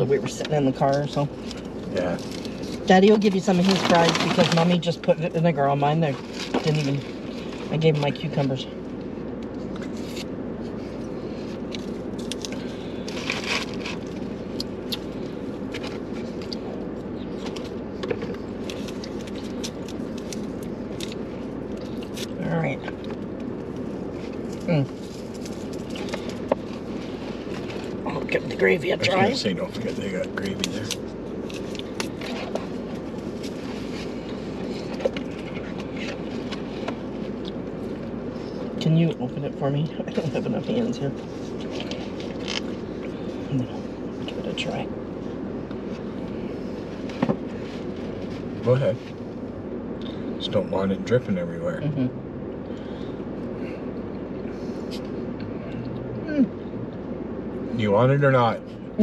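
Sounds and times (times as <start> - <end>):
low hum inside car: 0.0 - 59.0.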